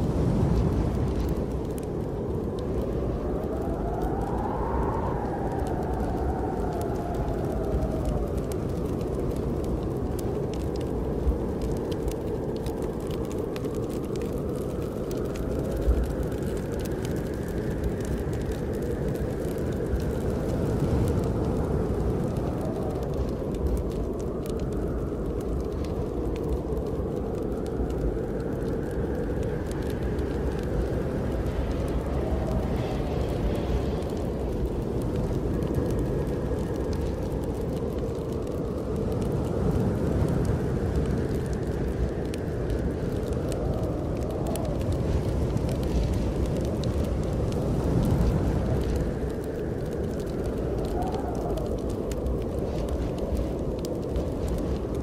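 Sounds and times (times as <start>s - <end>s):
howling snowstorm wind: 0.0s - 55.0s
wood fire crackling: 0.0s - 55.0s.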